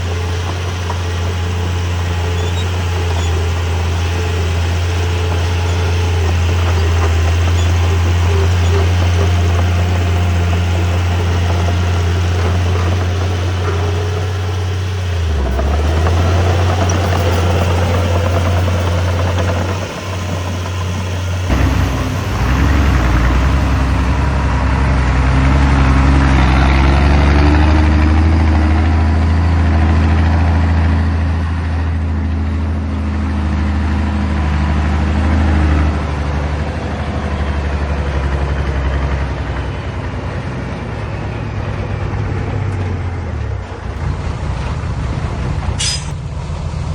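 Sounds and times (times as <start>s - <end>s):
diesel engine deep hum: 0.0s - 46.9s.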